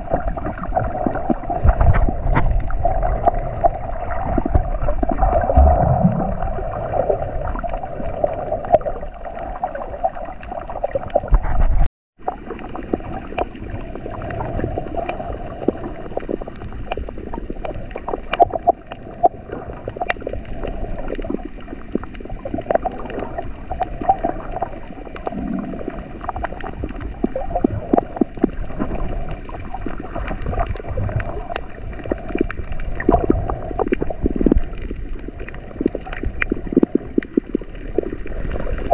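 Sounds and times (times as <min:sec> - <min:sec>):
muffled underwater rumble: 0:00.0 - 0:38.9
small underwater clicks and crackles: 0:00.0 - 0:38.9.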